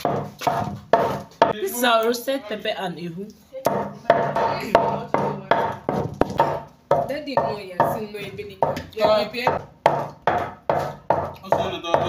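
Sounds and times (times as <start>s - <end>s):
wooden pestle pounding in mortar: 0.0s - 1.6s, 3.7s - 12.0s.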